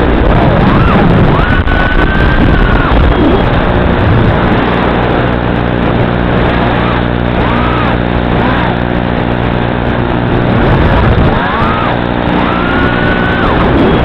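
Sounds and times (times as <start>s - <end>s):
quadcopter motors buzzing: 0.0s - 14.0s.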